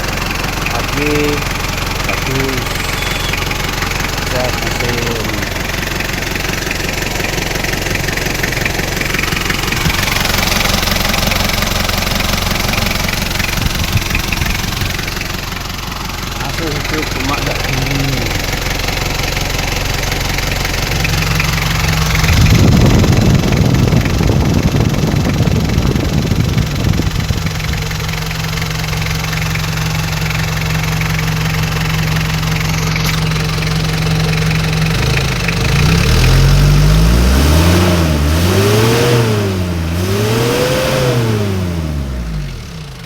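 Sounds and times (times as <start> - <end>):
diesel engine idling and revving: 0.0 - 43.0.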